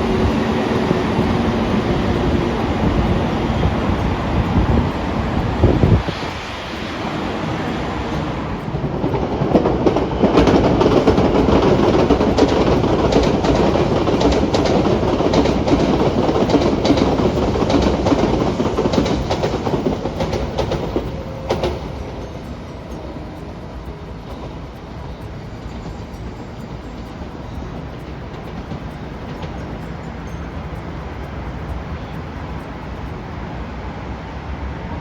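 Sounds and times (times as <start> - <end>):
wheel clacks over rail joints: 0.0 - 33.3
train rumble: 0.0 - 35.0.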